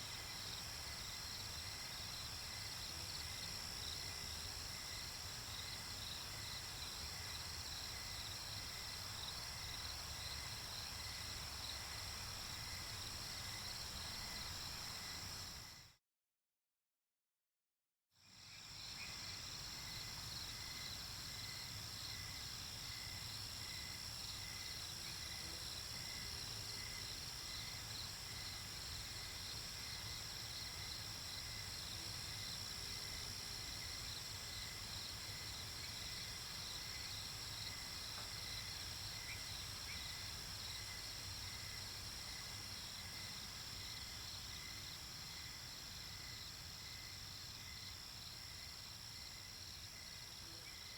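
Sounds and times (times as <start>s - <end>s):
crickets and insects chirping: 0.0s - 15.9s, 18.3s - 50.9s.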